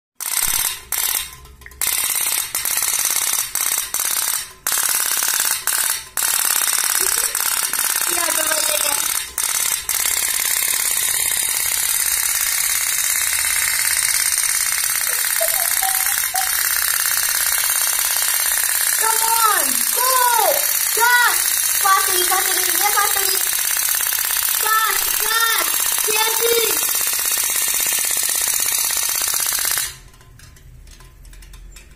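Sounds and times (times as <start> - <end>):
toy steam engine putt-putt rattle: 0.2 - 31.9.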